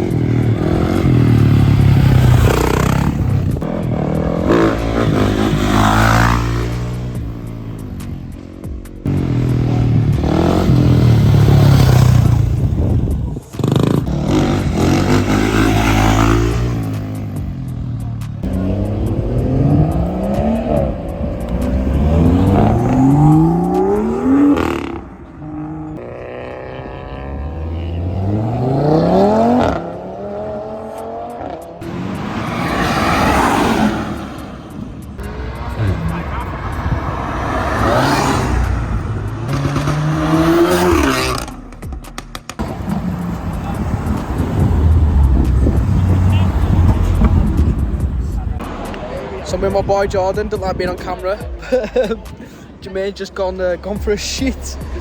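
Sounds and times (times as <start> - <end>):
car engines accelerating: 0.0 - 55.0.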